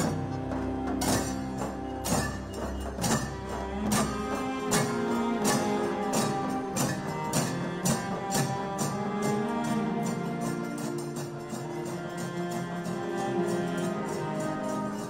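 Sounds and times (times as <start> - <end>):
cymbals striking: 0.0 - 15.0
drums beating: 0.0 - 15.0.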